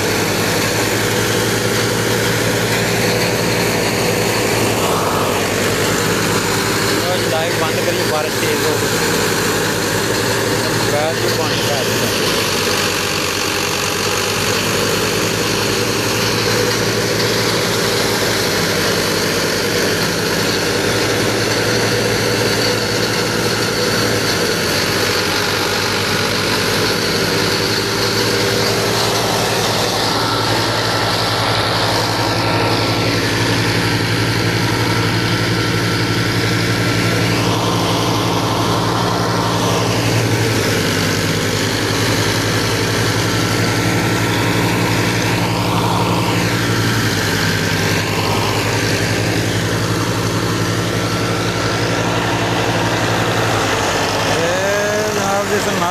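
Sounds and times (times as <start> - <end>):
threshing machine whirring hiss: 0.0 - 55.9
tractor diesel engine droning: 0.0 - 55.9.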